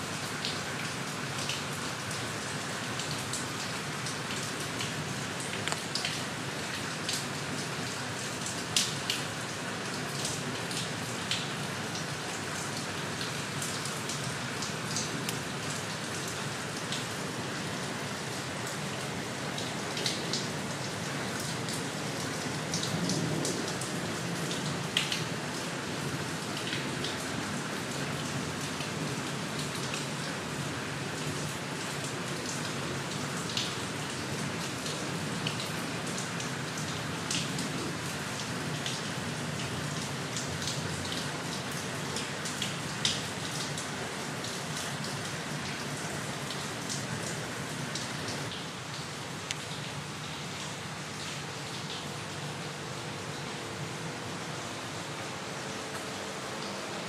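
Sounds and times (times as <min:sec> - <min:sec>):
raindrops ticking on surfaces: 0:00.0 - 0:57.0
steady rain hiss: 0:00.0 - 0:57.0.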